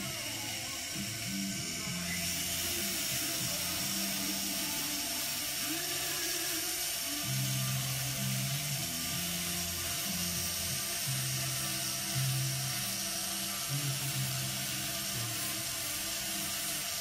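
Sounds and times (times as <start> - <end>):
rotary polishing tool whine: 0.0 - 17.0.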